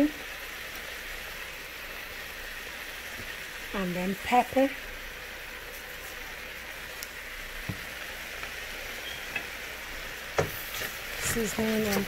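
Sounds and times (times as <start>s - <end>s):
peppers and onions sizzling: 0.0s - 12.0s.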